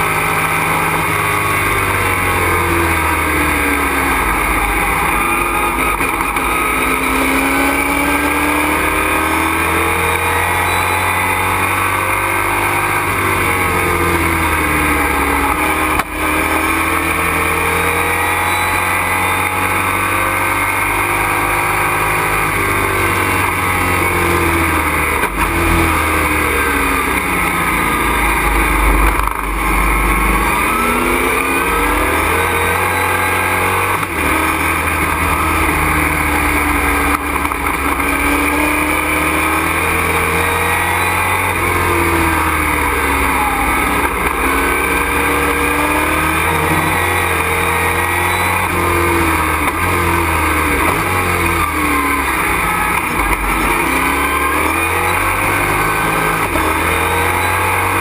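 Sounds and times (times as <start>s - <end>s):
wind and road noise: 0.0s - 57.3s
race truck engine revving: 0.0s - 58.0s.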